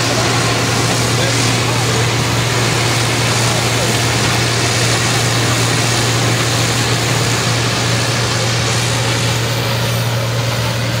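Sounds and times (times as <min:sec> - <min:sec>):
combine harvester engine hum: 0:00.0 - 0:11.0
cutting and threshing machinery: 0:00.0 - 0:11.0.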